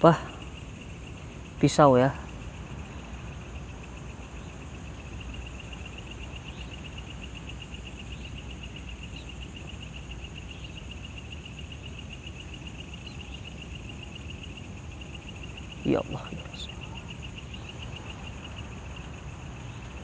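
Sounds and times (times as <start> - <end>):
cricket pulsing trill: 0.0 - 20.0
high insect drone: 0.0 - 20.0.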